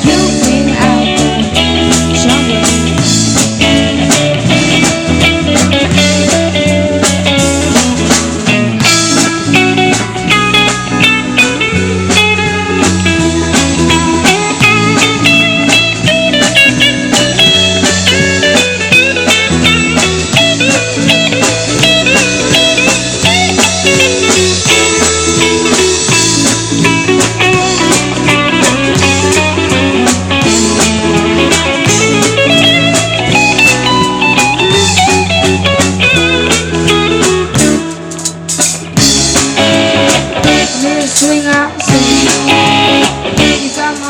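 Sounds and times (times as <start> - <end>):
guitar lead line bending pitch: 0.0 - 44.0
live band playing: 0.0 - 44.0.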